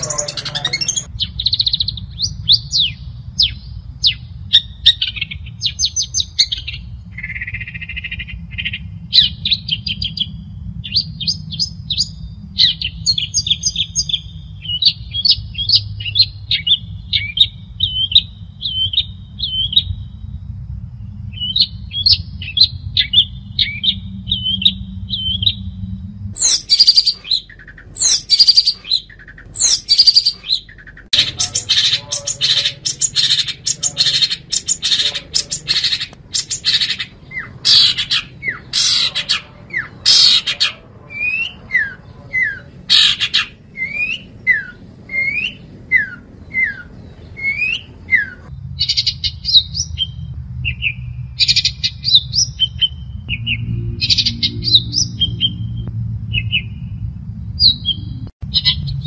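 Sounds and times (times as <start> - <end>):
harsh bird calls: 0.0 - 56.9, 57.6 - 59.0
bird singing chattering song: 0.0 - 59.0
steady low hum: 0.0 - 59.0.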